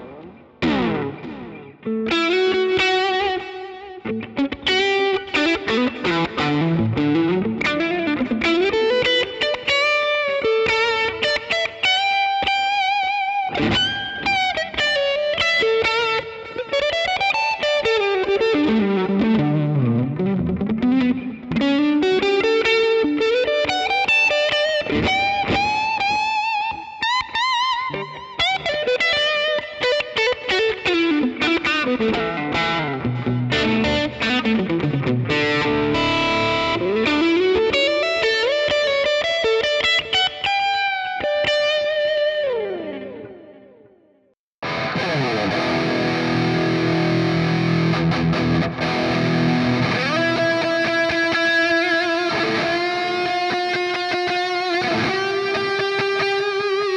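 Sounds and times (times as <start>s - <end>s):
electric guitar lead: 0.0s - 56.9s.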